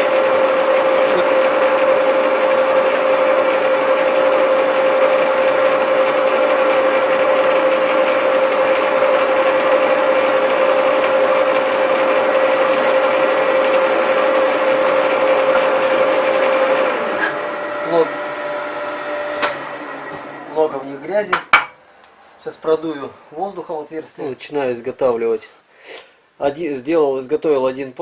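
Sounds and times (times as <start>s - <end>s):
lathe whining: 0.0s - 24.0s.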